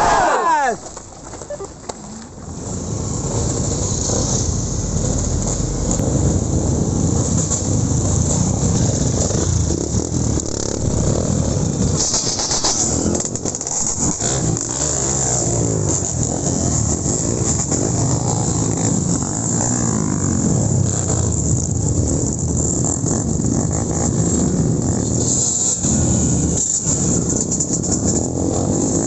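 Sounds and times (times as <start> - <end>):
motorcycle engine rumble: 0.0 - 29.0.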